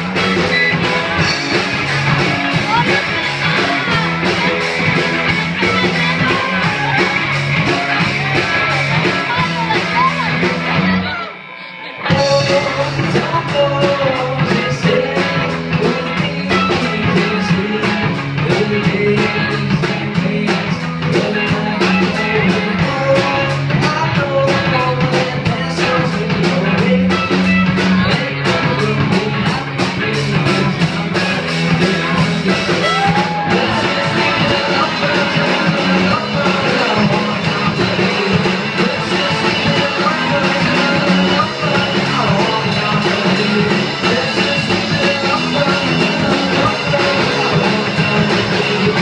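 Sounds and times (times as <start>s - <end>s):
man singing lead vocal: 0.0s - 49.0s
rock band playing: 0.0s - 49.0s.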